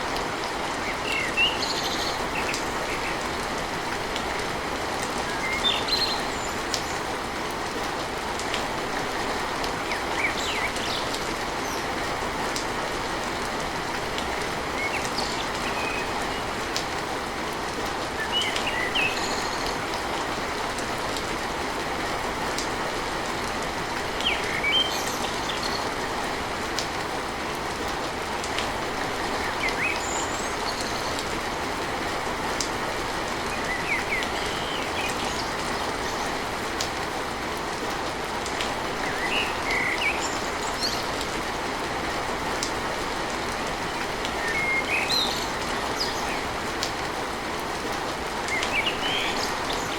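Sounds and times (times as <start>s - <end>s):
heavy rain on a tin roof: 0.0s - 49.9s.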